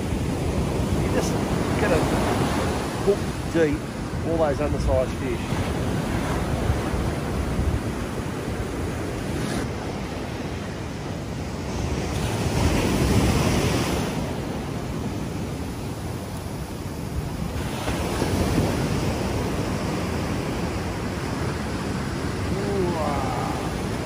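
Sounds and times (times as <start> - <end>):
surf breaking on beach: 0.0 - 24.0
wind rumbling on microphone: 0.0 - 24.0.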